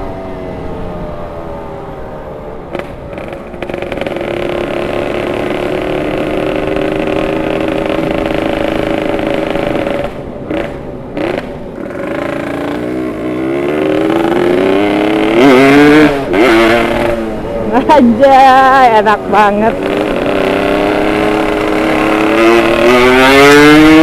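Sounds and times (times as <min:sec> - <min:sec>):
motorcycle engine revving: 0:02.6 - 0:24.0.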